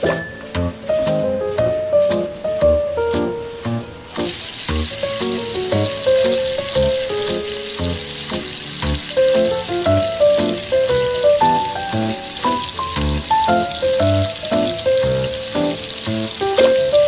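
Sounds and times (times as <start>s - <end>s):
instrumental background music: 0.0s - 17.0s
garlic sizzling in hot oil: 3.3s - 17.0s.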